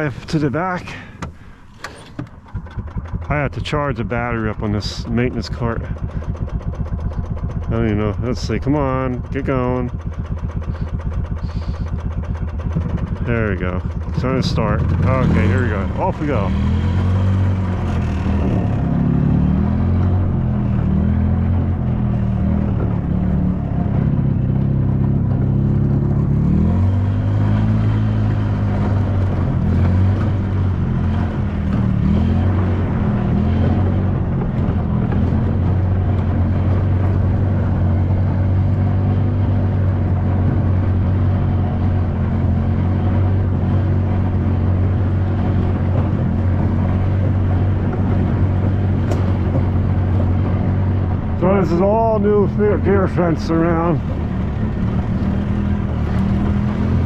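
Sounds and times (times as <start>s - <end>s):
cart engine running: 0.0s - 57.0s.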